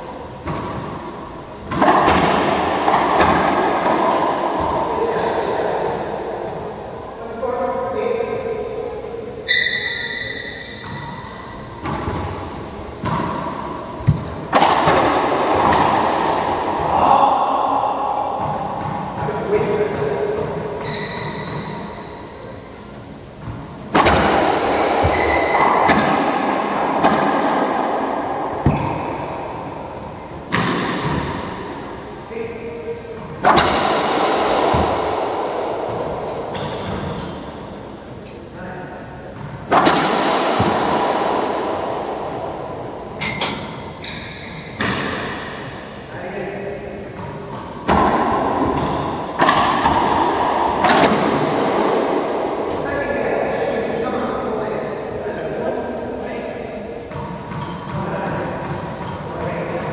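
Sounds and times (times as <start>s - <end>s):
racquetball hitting floor and walls: 0.0s - 8.3s, 9.4s - 59.9s.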